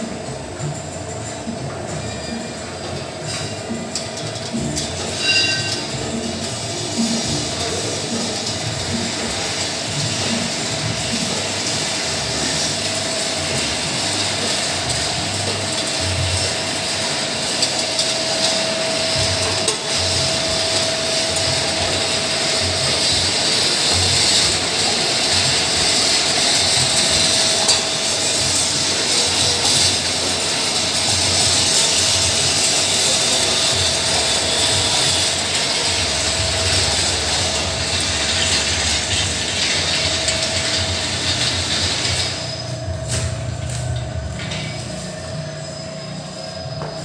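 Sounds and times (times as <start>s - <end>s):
packing machine humming: 0.0s - 47.0s.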